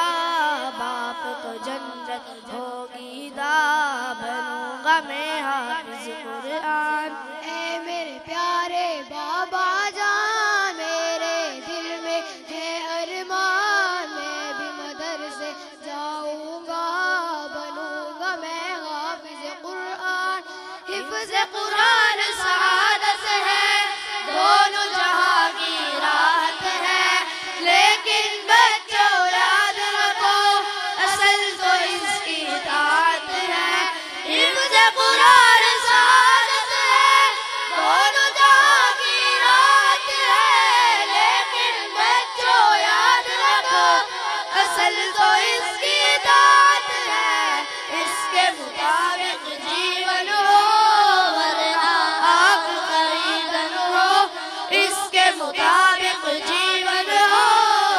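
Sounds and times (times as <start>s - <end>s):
boys singing into microphones: 0.0s - 57.9s.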